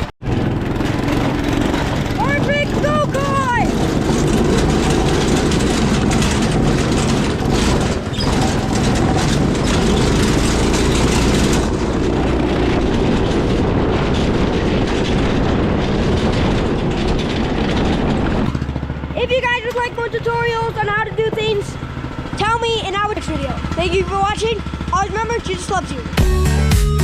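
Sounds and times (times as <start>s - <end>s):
engine running loud and steady: 0.0s - 27.0s.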